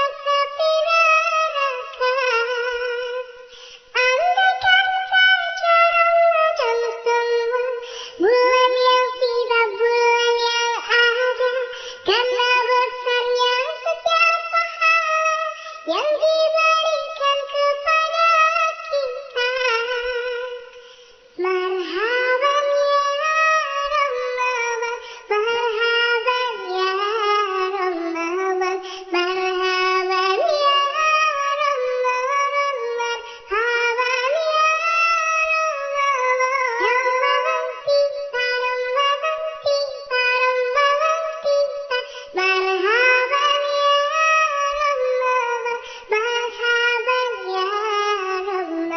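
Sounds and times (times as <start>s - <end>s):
synthetic high-pitched singing voice: 0.0s - 20.8s, 21.4s - 48.9s.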